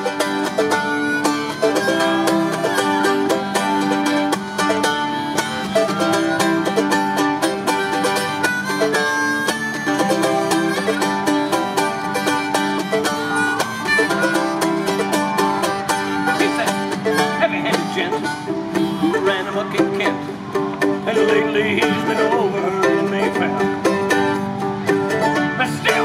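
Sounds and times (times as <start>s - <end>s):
harmonica melody: 0.0s - 26.0s
mandolin picking: 0.0s - 26.0s.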